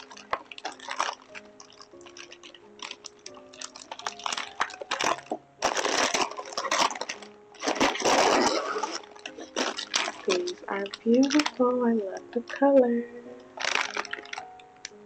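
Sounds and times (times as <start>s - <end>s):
soft background music: 0.0s - 15.0s
wrapping paper crinkling: 0.0s - 15.0s.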